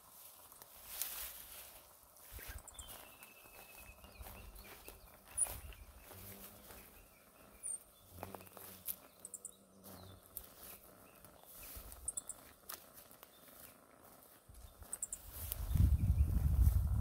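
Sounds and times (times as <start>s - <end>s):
faint footsteps on dirt trail: 0.0s - 17.0s.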